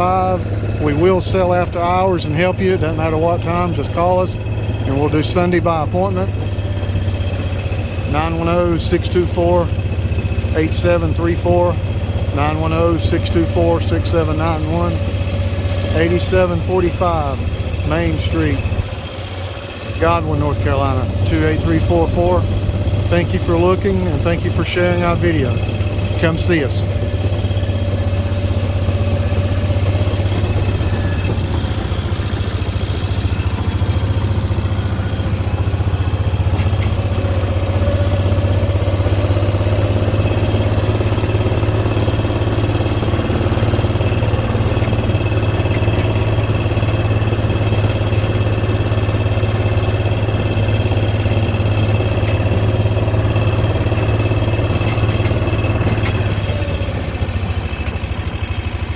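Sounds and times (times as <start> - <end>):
vehicle engine humming: 0.0 - 58.9.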